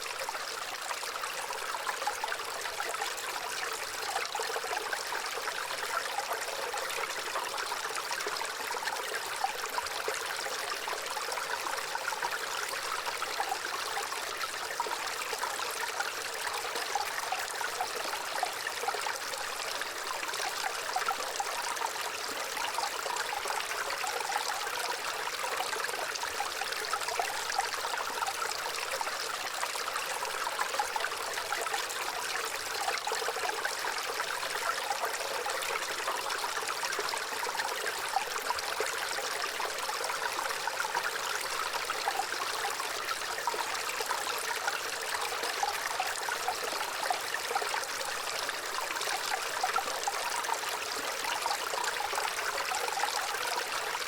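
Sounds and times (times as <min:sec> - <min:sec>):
water trickling and babbling: 0:00.0 - 0:54.0.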